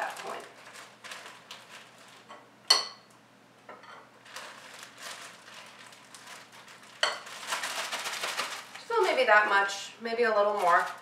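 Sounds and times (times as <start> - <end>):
plastic rustling: 0.0 - 2.5, 4.2 - 11.0.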